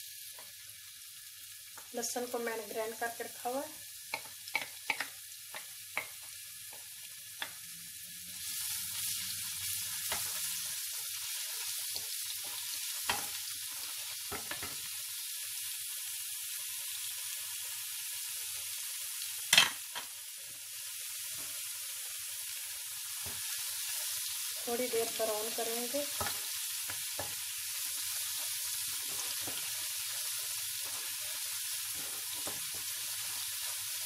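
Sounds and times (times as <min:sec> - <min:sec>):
garlic sizzling in hot oil: 0:00.0 - 0:34.0.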